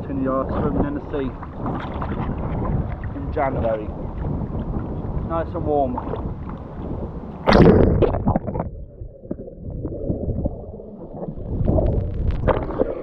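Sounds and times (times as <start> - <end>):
low rumbling wash: 0.0 - 13.0
seawater splashing: 0.2 - 13.0.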